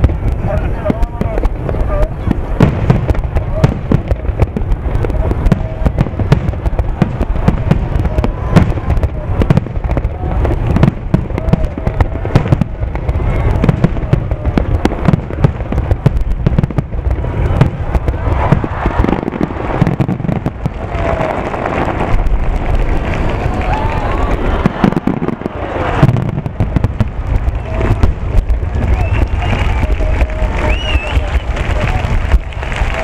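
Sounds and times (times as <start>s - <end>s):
fireworks booming: 0.0s - 33.0s.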